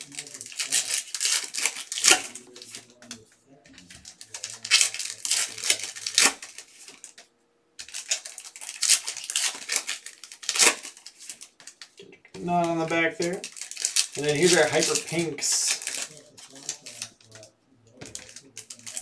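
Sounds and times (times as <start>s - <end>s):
foil packs tearing and crinkling: 0.0s - 3.2s, 3.8s - 7.2s, 7.8s - 19.0s.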